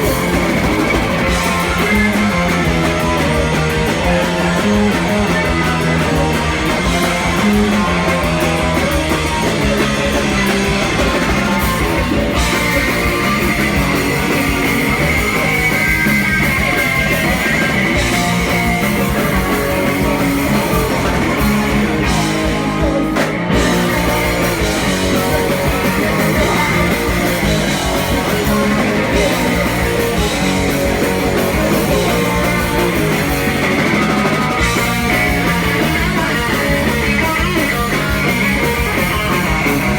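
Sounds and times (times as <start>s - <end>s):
bass guitar: 0.0s - 39.9s
distorted electric guitar: 0.0s - 39.9s
drums: 0.0s - 39.9s.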